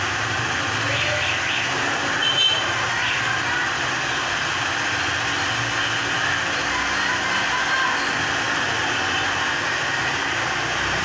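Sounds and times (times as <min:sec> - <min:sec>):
street traffic: 0:00.0 - 0:11.0
crowd noise: 0:00.6 - 0:11.0.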